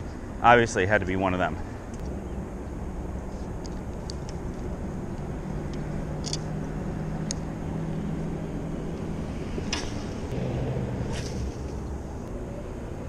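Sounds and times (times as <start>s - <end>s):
distant engine hum: 0.0s - 13.0s
outdoor rumble: 1.0s - 13.0s.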